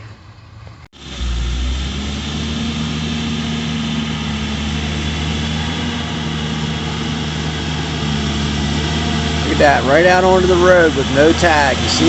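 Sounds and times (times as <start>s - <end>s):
tractor engine running: 0.5s - 12.0s.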